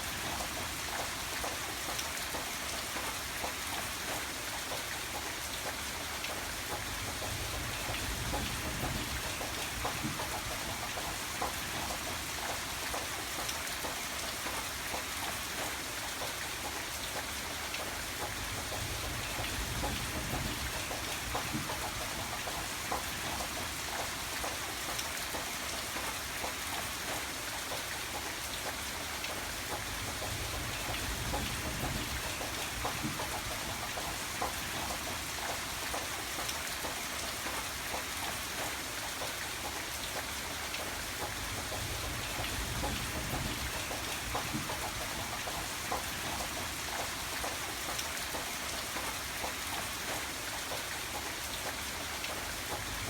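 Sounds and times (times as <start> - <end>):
rain drops ticking on a surface: 0.0 - 53.0.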